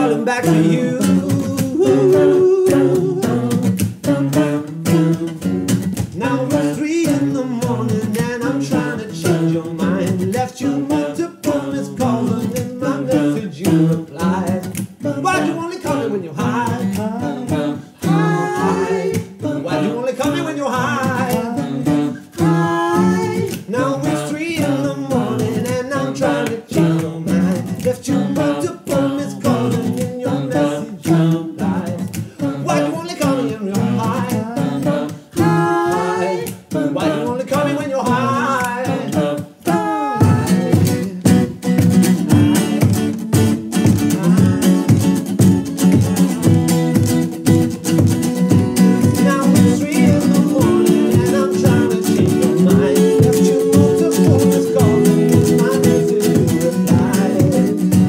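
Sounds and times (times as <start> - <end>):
men singing in harmony: 0.0 - 41.6, 42.2 - 47.0, 48.7 - 58.0
acoustic guitar strumming: 0.0 - 58.0.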